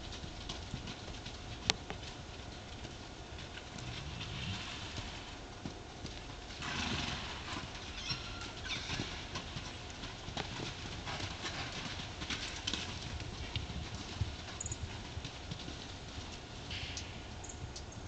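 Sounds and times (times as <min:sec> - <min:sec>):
horse hooves galloping on dirt: 0:00.0 - 0:18.0.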